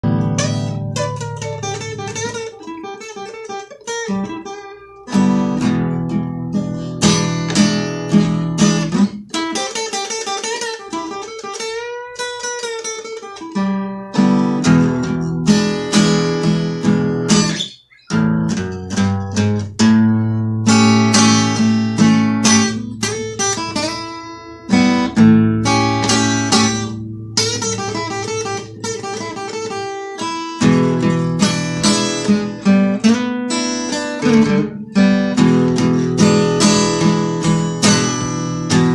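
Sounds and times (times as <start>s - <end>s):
acoustic blues guitar: 0.0s - 38.9s.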